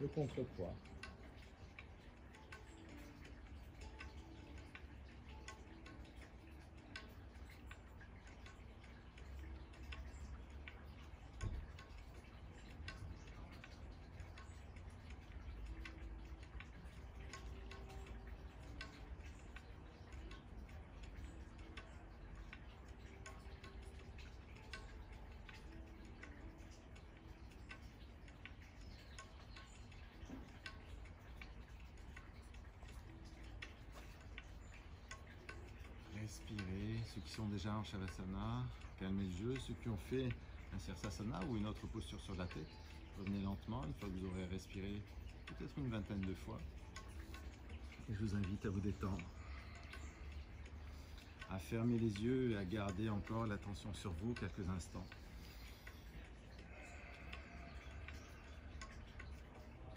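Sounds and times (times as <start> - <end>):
light ticks: 0.0 - 59.9.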